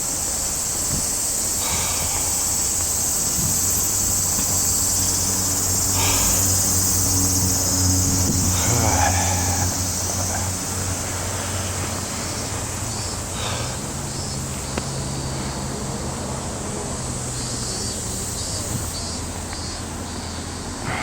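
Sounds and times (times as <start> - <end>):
high insect drone: 0.0 - 21.0
low hum of traffic: 0.0 - 21.0.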